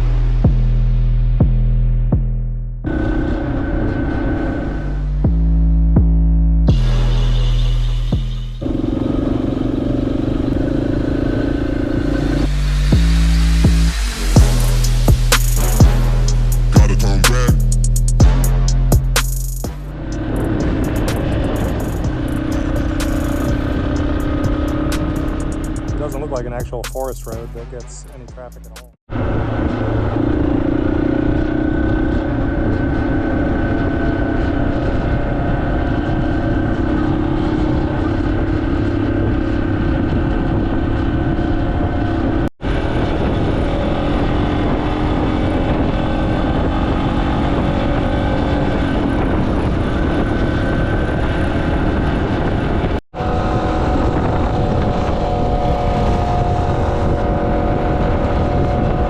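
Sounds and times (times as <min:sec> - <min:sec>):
motorcycle engine cruising: 0:00.0 - 0:59.0
road noise: 0:00.0 - 0:59.0.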